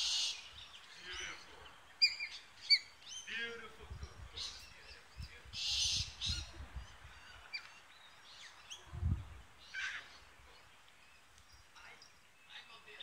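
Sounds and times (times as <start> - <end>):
birds chirping and calling: 0.0 - 13.0.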